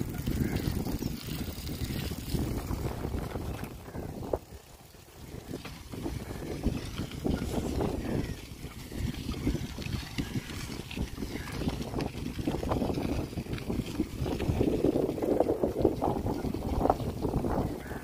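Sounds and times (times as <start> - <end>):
bicycle tyres rumbling on dirt: 0.0 - 18.0
wind buffeting microphone: 0.0 - 18.0.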